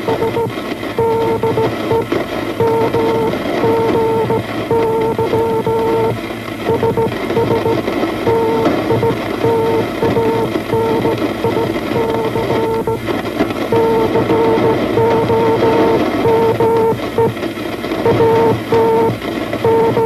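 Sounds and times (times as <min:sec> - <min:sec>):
morse code tone: 0:00.0 - 0:20.0
radio static hiss: 0:00.0 - 0:20.0.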